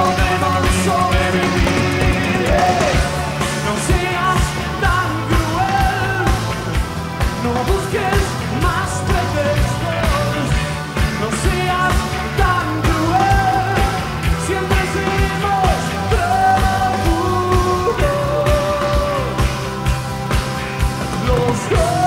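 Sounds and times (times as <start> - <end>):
electric guitar: 0.0 - 22.0
steady drum beat: 0.0 - 22.0.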